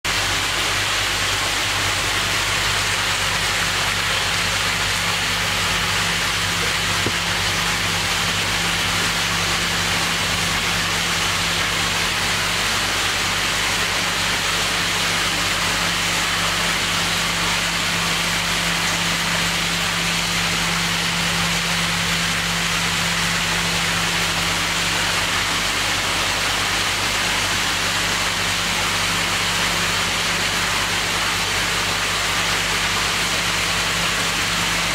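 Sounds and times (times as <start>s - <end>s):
machinery hum: 0.1s - 34.9s.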